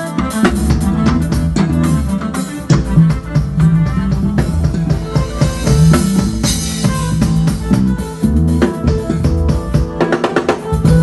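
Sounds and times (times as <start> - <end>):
loud music with drums and bass: 0.0 - 11.0.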